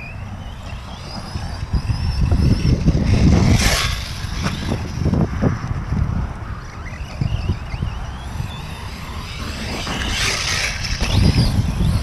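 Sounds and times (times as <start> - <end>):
electric motor whine: 0.0 - 12.0
low buffeting rumble: 0.0 - 12.0.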